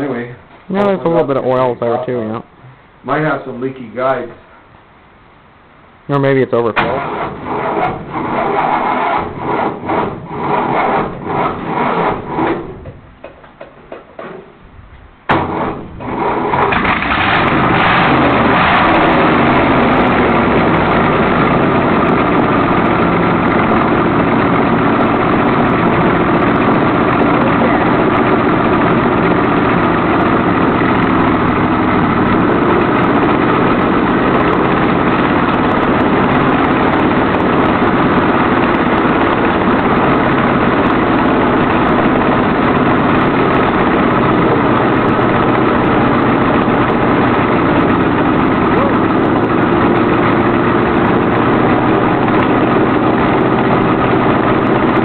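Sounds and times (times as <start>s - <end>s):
loud open-exhaust car engine: 6.7s - 55.0s.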